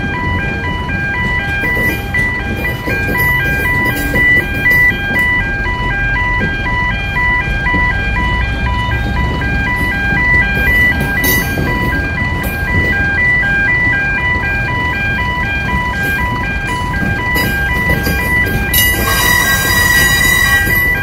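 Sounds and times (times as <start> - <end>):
rumble of rolling wagons: 0.0 - 21.0
two-tone crossing alarm wail: 0.0 - 21.0.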